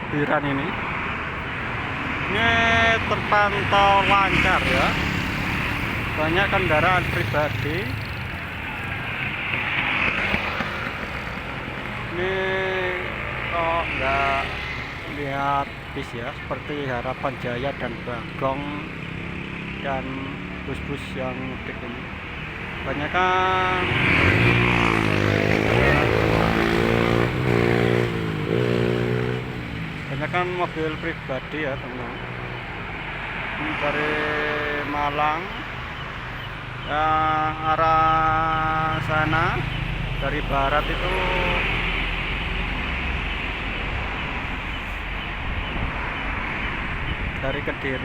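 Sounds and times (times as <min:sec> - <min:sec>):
cars passing: 0:00.0 - 0:48.0
motorcycles passing: 0:00.0 - 0:48.0
traffic noise: 0:00.0 - 0:48.0
tyres on the road: 0:00.0 - 0:48.0.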